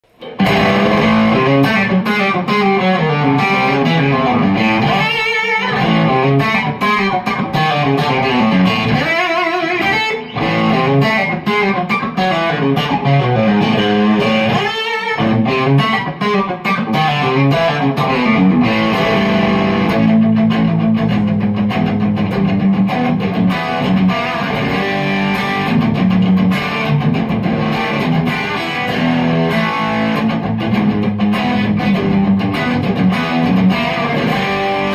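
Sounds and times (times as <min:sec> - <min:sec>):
electric guitar chicken-picking: 0:00.0 - 0:34.9.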